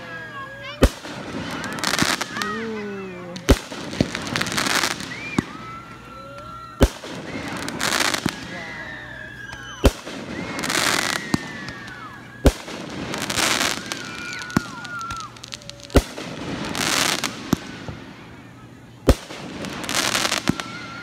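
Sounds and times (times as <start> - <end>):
crackling hiss of fireworks: 0.0 - 21.0
firework bangs: 0.0 - 21.0.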